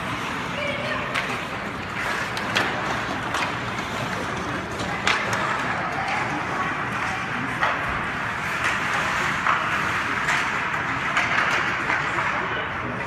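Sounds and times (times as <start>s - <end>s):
hockey sticks clacking: 0.0s - 13.0s
rink background noise: 0.0s - 13.0s
skates scraping over ice: 0.0s - 13.0s.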